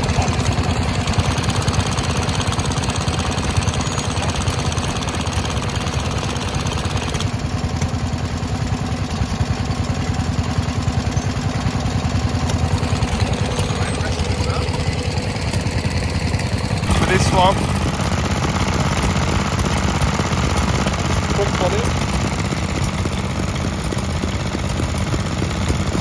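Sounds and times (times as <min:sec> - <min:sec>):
stationary engines chugging: 0:00.0 - 0:26.0.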